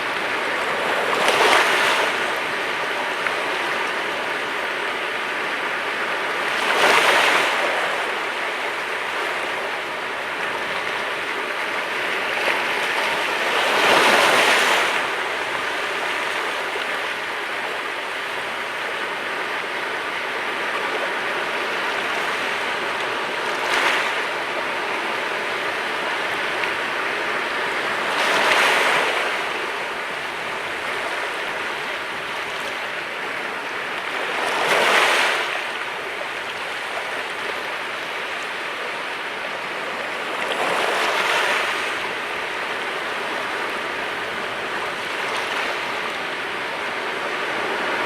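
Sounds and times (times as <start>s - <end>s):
waves breaking: 0.0s - 48.0s.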